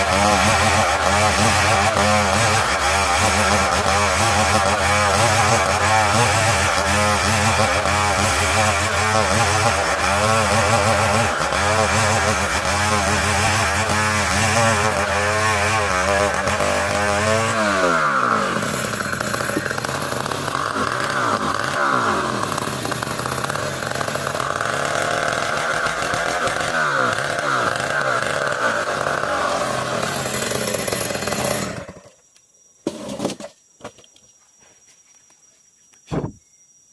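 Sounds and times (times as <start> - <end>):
chainsaw sawing wood: 0.0 - 32.1, 32.9 - 33.5.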